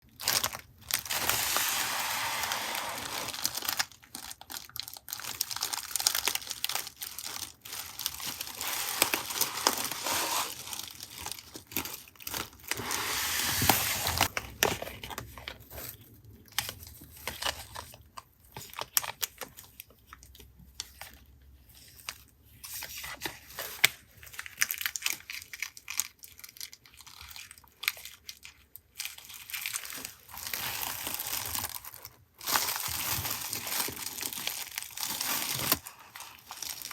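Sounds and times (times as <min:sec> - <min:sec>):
packaging crinkling and tearing: 0:00.1 - 0:36.9.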